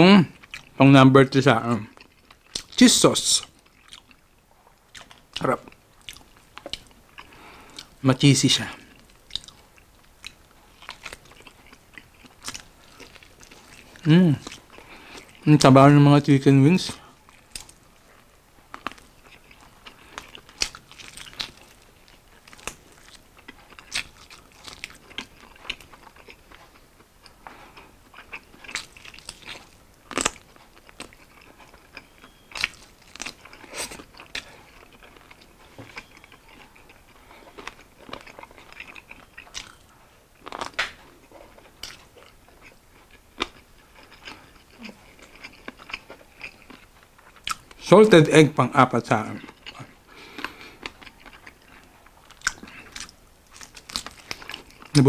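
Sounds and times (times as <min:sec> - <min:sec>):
person chewing: 0:00.3 - 0:00.8, 0:01.7 - 0:02.8, 0:03.4 - 0:08.0, 0:08.7 - 0:15.5, 0:16.9 - 0:47.8, 0:49.1 - 0:55.0.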